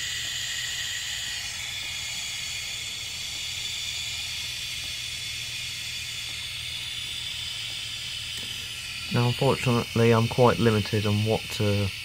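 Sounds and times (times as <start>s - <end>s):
water hissing from float valve: 0.0s - 12.0s.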